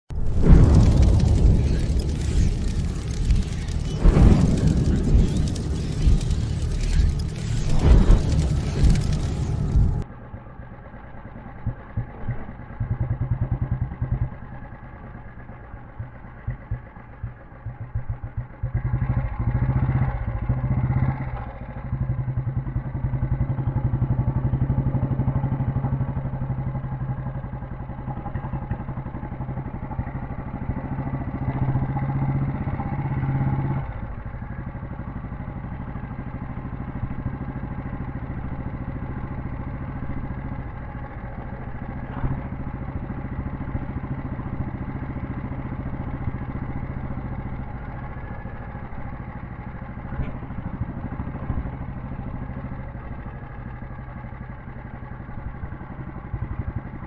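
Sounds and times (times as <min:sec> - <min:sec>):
motorcycle engine running: 0:10.6 - 0:57.0.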